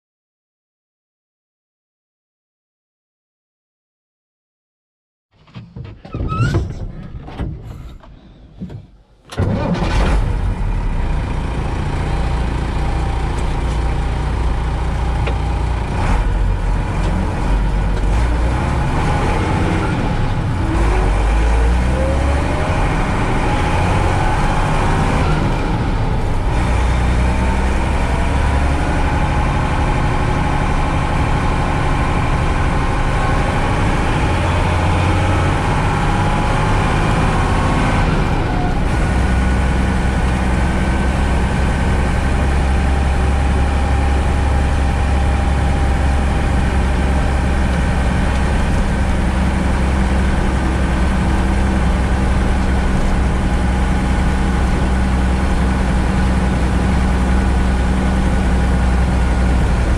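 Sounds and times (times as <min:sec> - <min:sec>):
diesel truck engine running: 0:05.4 - 0:59.9
truck driving on gravel: 0:05.4 - 0:59.9.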